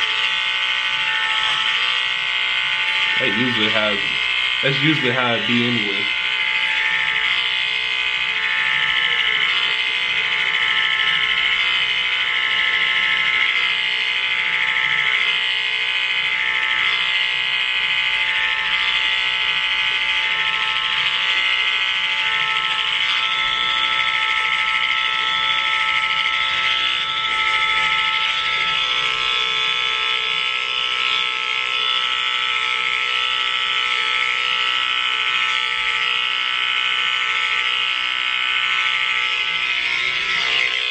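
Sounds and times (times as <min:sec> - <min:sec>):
electric hair clippers buzzing: 0:00.0 - 0:40.9.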